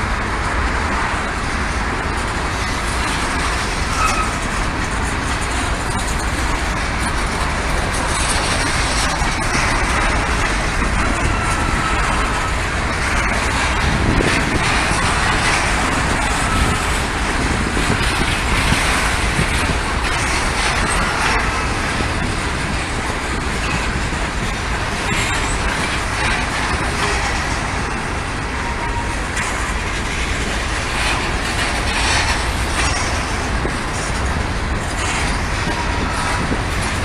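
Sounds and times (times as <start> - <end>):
freight train rumbling past: 0.0 - 37.0
train wheel squeals: 2.6 - 37.0.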